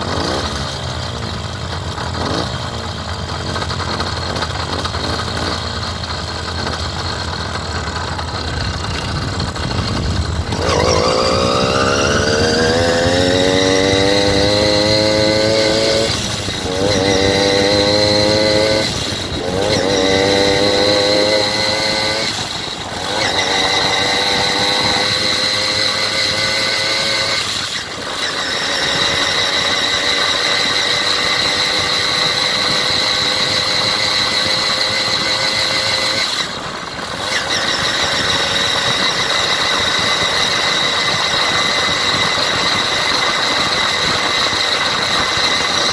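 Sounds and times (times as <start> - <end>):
vehicle engine idling and revving: 0.0 - 45.9.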